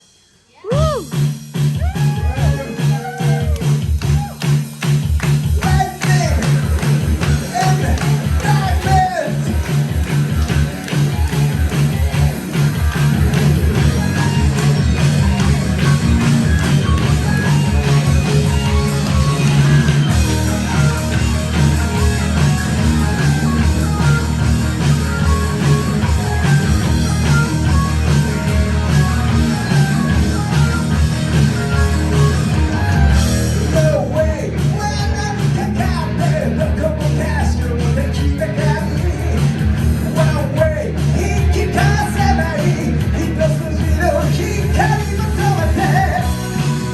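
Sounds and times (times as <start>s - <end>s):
hard rock band playing live: 1.5s - 46.9s.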